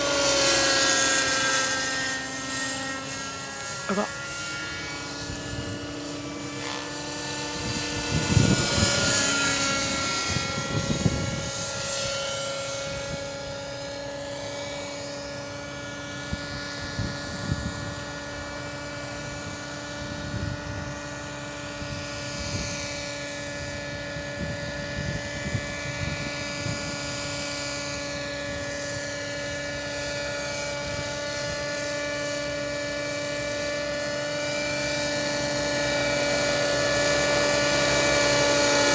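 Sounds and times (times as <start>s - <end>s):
model helicopter engine hum: 0.0s - 38.9s.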